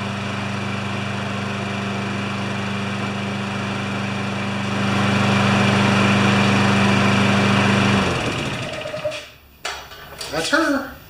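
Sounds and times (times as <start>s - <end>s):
lawn mower engine running: 0.0s - 9.3s.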